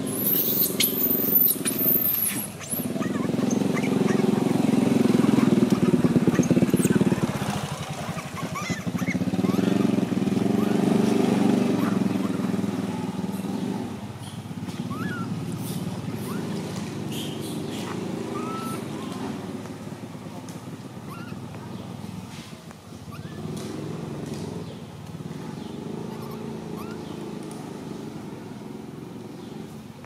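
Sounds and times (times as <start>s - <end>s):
engine running with low pulsing: 0.0s - 30.0s.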